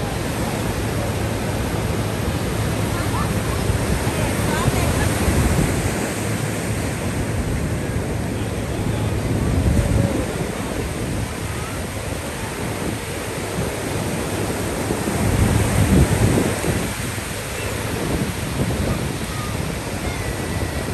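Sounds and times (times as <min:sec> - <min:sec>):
ocean surf breaking: 0:00.0 - 0:20.9
wind on microphone: 0:00.0 - 0:20.9.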